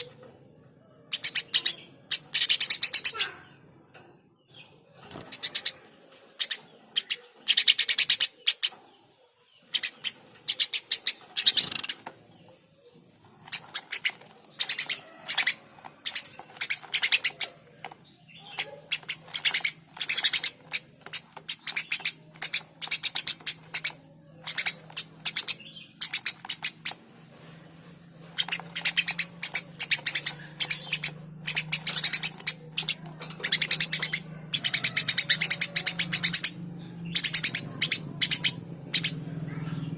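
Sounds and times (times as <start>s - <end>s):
sparrow chirping: 0.0s - 3.6s, 4.4s - 39.9s.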